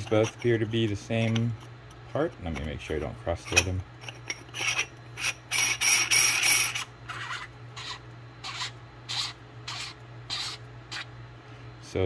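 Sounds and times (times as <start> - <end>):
metal threads scraping: 0.0 - 11.1.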